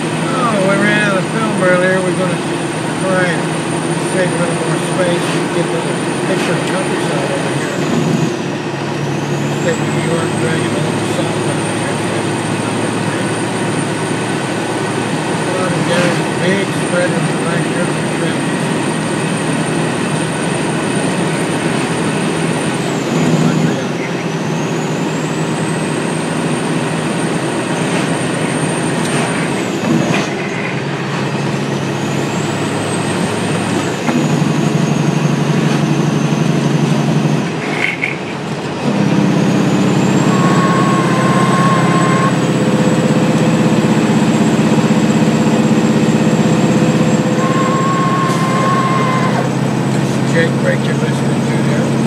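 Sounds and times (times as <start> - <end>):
road noise: 0.0 - 52.0
truck diesel engine running: 0.0 - 52.0.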